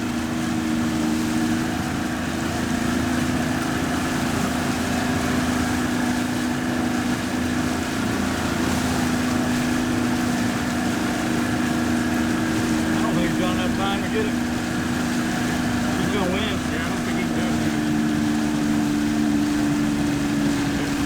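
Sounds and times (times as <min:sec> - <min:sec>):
motorboat engine running: 0:00.0 - 0:21.0
water noise: 0:00.0 - 0:21.0.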